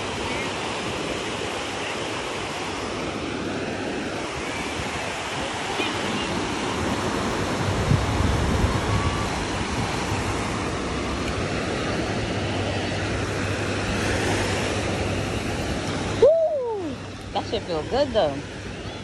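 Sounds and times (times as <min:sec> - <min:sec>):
ocean surf washing on shore: 0:00.0 - 0:19.0.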